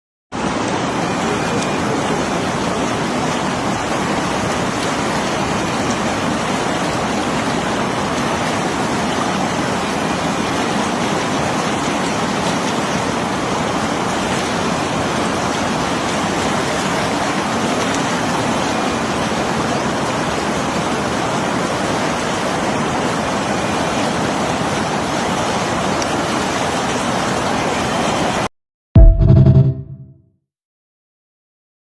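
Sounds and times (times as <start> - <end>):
rushing water: 0.3 - 28.5.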